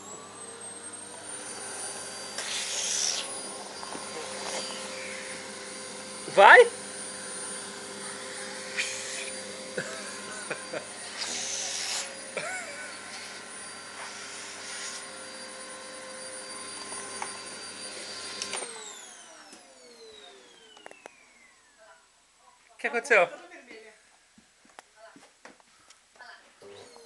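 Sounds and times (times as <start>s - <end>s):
motor spinning down whine: 0.0s - 21.8s
vacuum cleaner running: 0.0s - 21.8s, 26.6s - 27.0s.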